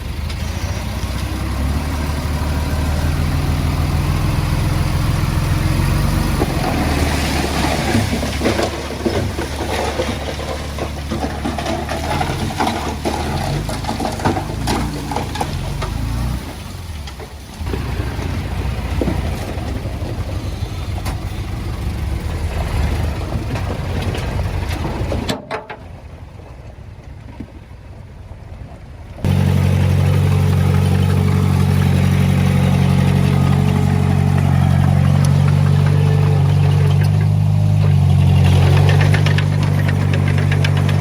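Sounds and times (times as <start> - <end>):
heavy diesel engine running: 0.0 - 25.4, 29.2 - 41.0.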